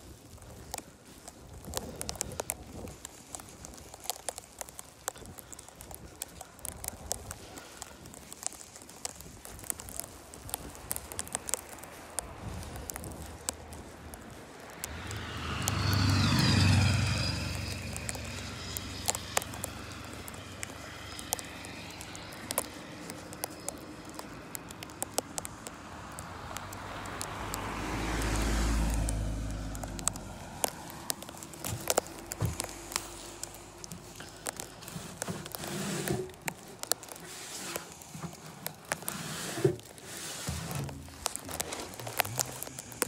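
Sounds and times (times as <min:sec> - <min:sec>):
light sharp ticks: 0:00.0 - 0:43.0
vehicles driving past on snow: 0:00.0 - 0:43.0.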